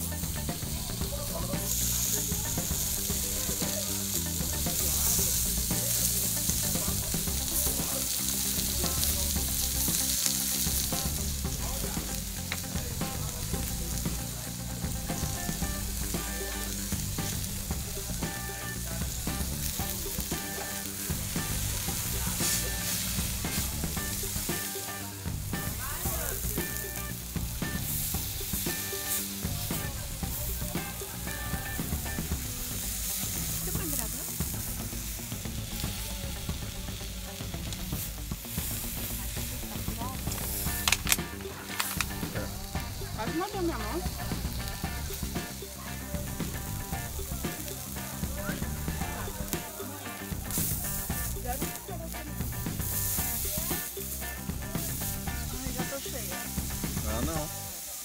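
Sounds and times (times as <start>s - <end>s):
meat sizzling on a griddle: 0.0s - 58.0s.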